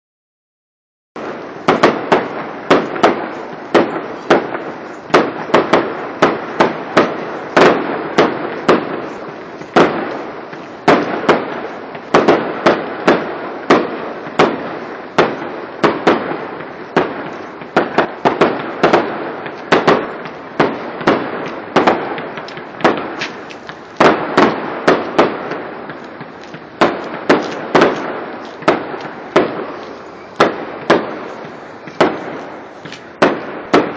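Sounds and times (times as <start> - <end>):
continuous fireworks rumble: 1.2 - 33.9
firework shells bursting: 1.2 - 33.9.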